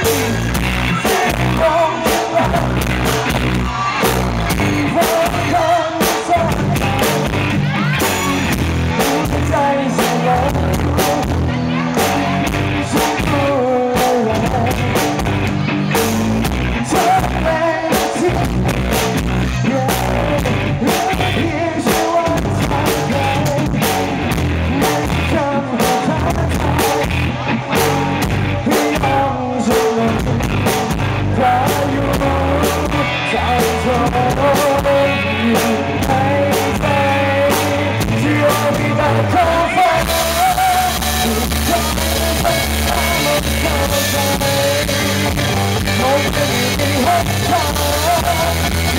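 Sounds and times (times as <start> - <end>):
person singing: 0.0 - 48.9
rock band playing: 0.0 - 48.9.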